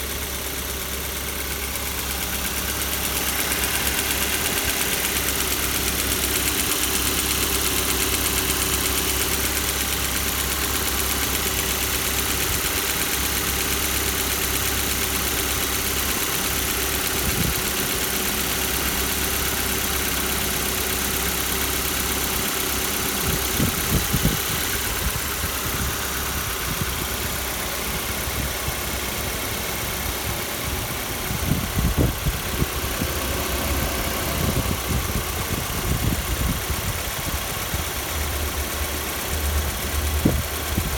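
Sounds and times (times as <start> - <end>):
car engine idling with knock: 0.0 - 40.9.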